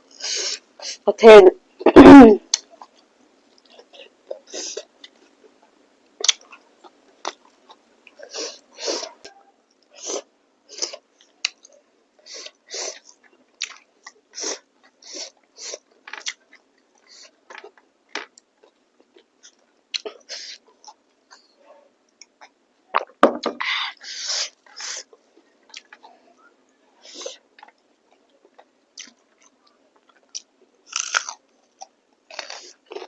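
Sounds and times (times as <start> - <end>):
person chewing food: 2.5 - 21.5, 22.1 - 26.2, 27.0 - 33.0.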